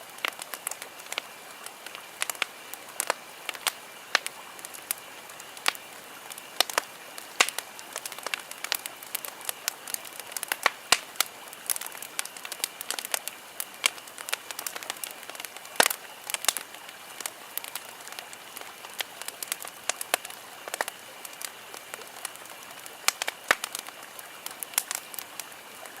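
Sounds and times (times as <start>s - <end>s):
campfire crackling and popping: 0.0s - 26.0s
faint steady hiss: 0.0s - 26.0s.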